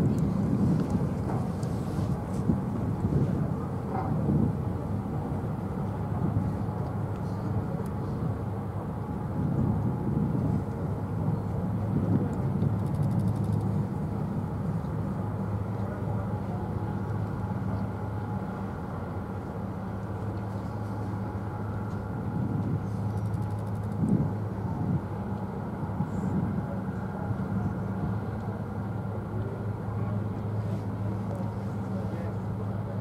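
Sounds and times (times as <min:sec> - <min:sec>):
ship engines droning: 0:00.0 - 0:33.0.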